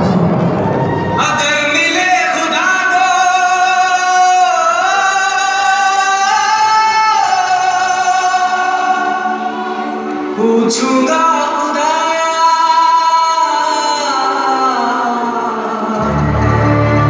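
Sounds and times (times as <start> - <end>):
man singing film song over loudspeakers: 1.1 - 17.0.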